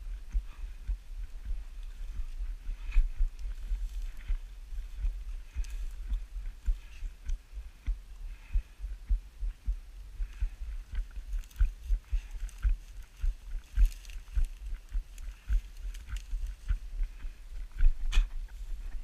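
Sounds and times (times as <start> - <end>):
dry grass and twigs brushing: 0.0 - 8.6, 10.2 - 19.0.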